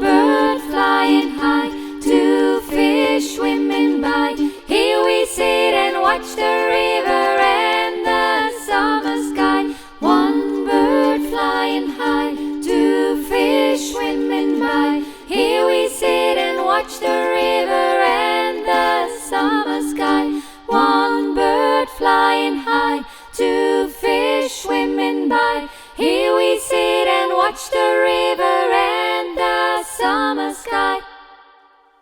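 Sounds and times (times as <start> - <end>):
a cappella group singing: 0.0 - 32.0.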